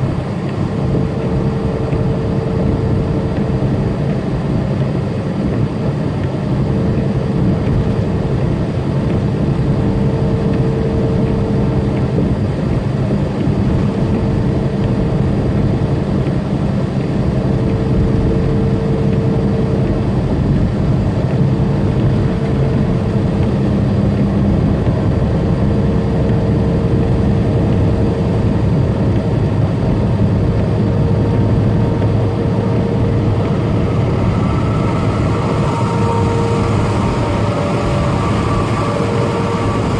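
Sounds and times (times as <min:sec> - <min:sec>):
constant hum: 0:00.0 - 0:39.9
diesel truck engine droning: 0:00.0 - 0:39.9
road noise: 0:00.0 - 0:39.9.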